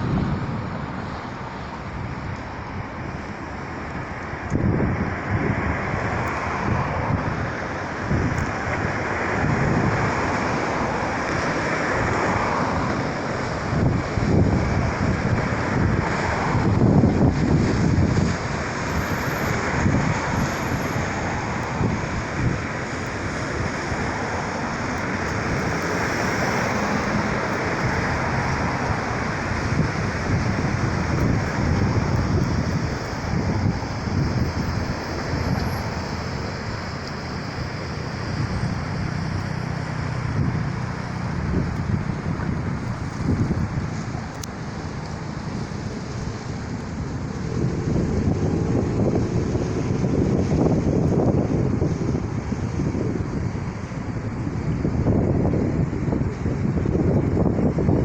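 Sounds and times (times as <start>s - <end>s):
steady rushing noise: 0.0s - 58.0s
wind buffeting microphone: 0.0s - 58.0s.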